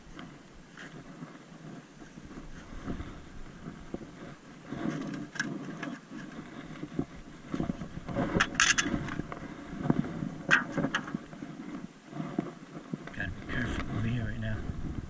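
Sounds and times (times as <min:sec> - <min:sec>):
gear rustling: 0:00.0 - 0:15.0.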